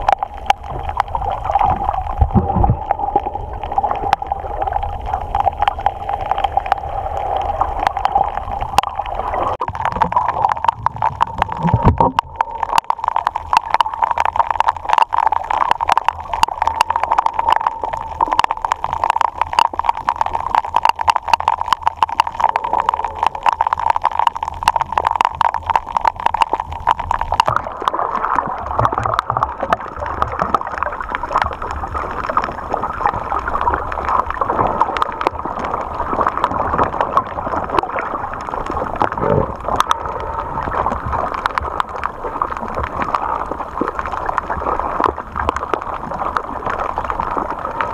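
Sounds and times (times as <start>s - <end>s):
crackling clicks underwater: 0.0s - 47.9s
steady underwater hum: 0.0s - 47.9s.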